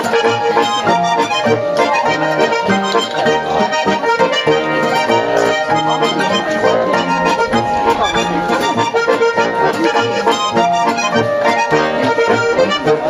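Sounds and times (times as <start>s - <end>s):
button accordion folk music: 0.0s - 13.0s
guitar accompaniment: 0.0s - 13.0s.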